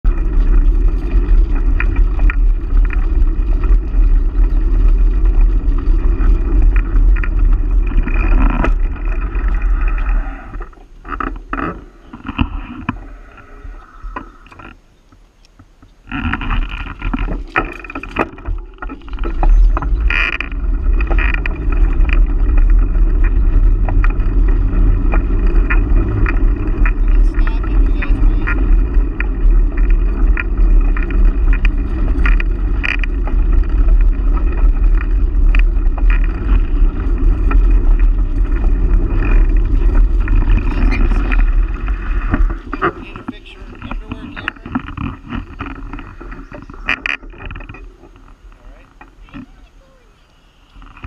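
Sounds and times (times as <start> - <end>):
wind on microphone: 0.0 - 14.8, 15.8 - 51.0
tyres on gravel: 0.0 - 51.0
bicycle clicks and rattles: 0.1 - 9.9, 14.5 - 49.4.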